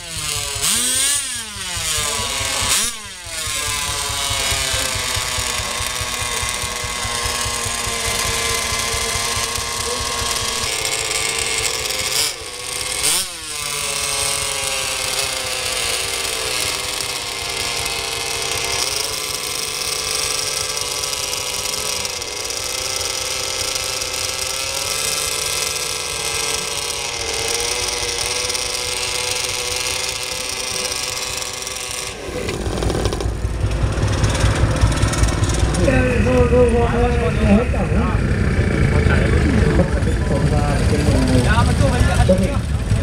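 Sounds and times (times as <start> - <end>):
model engines buzzing at high revs: 0.0 - 43.0.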